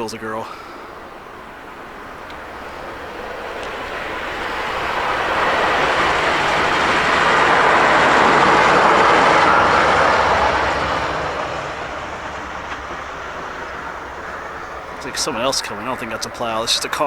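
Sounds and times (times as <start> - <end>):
snowplow truck driving past: 0.0 - 17.0.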